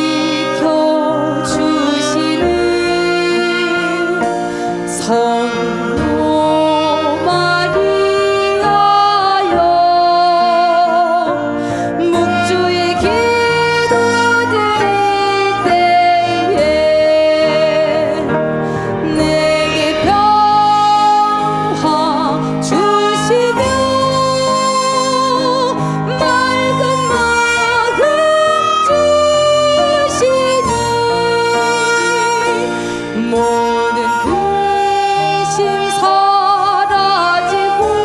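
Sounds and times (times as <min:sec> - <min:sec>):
traditional ensemble with piano: 0:00.0 - 0:38.0
woman singing with vibrato: 0:00.0 - 0:38.0.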